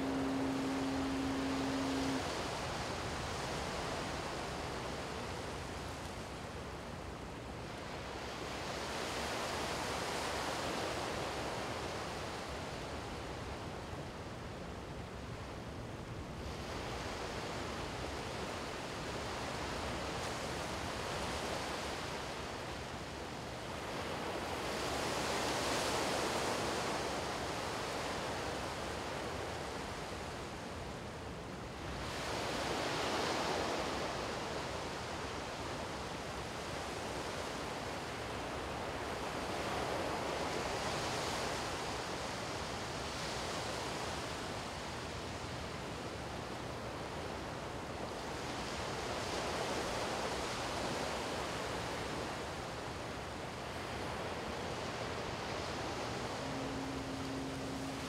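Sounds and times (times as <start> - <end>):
waves washing up a beach: 0.0 - 58.0.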